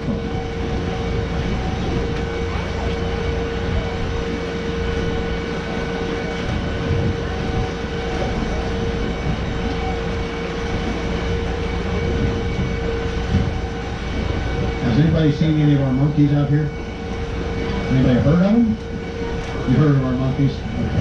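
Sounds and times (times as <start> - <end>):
boat motor rumbling with whine: 0.0 - 21.0.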